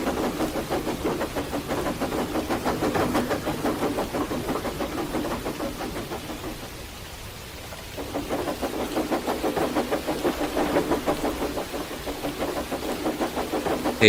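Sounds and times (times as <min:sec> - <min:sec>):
steam locomotive chuffing: 0:00.0 - 0:14.0.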